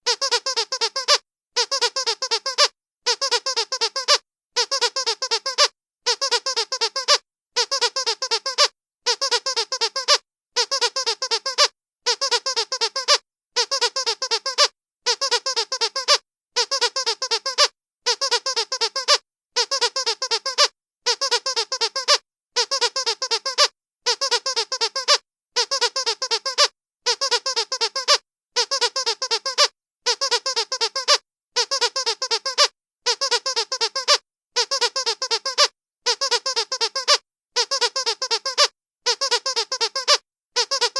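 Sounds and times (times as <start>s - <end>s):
rubber squeaky toy squeaking: 0.0s - 40.9s.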